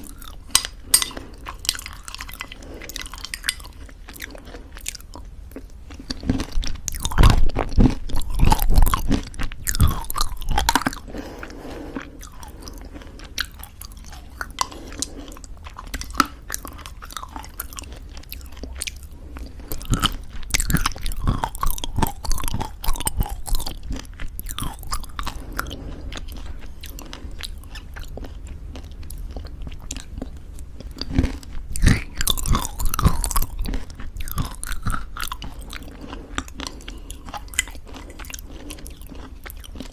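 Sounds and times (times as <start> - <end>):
chewing crunchy granola: 0.0 - 39.9.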